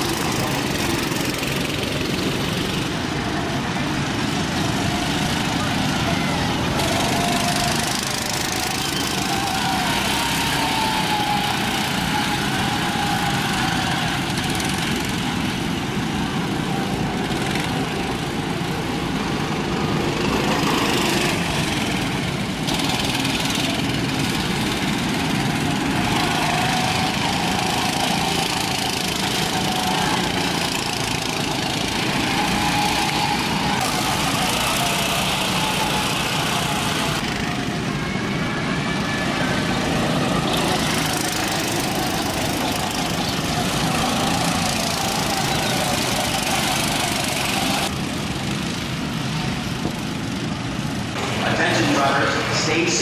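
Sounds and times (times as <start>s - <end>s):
go-kart engines droning: 0.0s - 53.0s.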